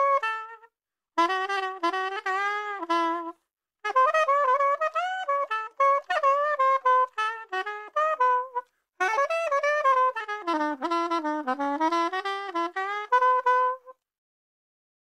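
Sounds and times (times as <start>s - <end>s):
soprano saxophone playing blues: 0.0s - 14.0s.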